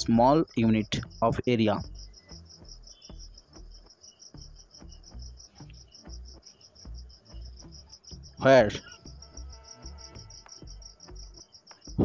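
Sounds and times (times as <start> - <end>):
insect chirping: 0.0 - 12.0
soft low beat: 0.0 - 12.0.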